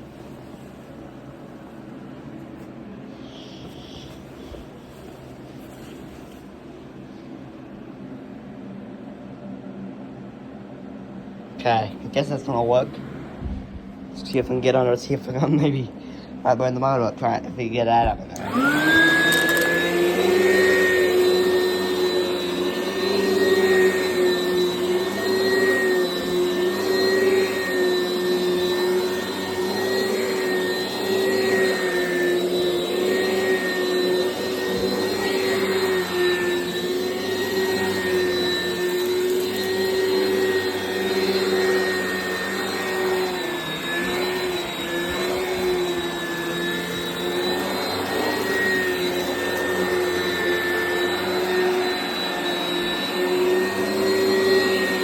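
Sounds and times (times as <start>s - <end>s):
upright vacuum cleaner whining: 0.0s - 8.0s, 17.9s - 55.0s.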